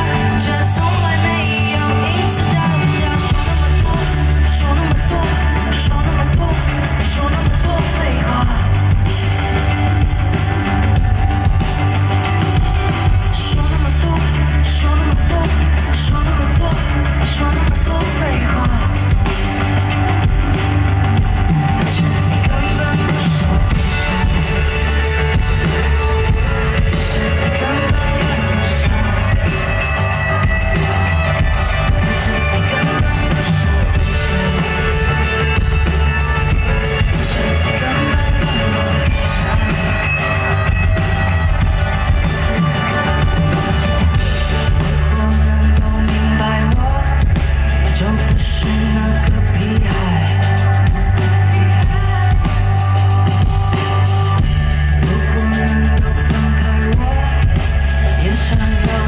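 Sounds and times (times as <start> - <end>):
bass: 0.0 - 59.0
drums: 0.0 - 59.0
guitar: 0.0 - 59.0
person singing: 0.0 - 59.0.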